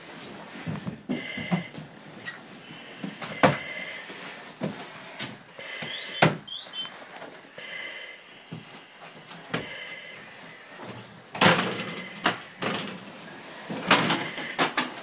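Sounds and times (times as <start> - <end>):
breathing through mask regulator: 0.0 - 15.0.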